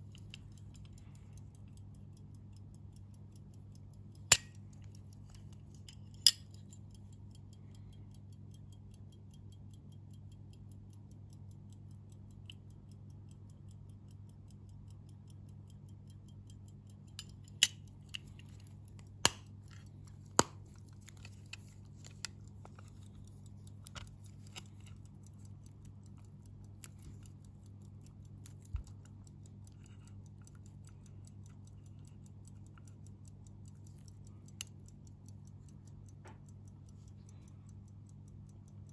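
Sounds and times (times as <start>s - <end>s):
pocket watch ticking: 0.0s - 38.9s.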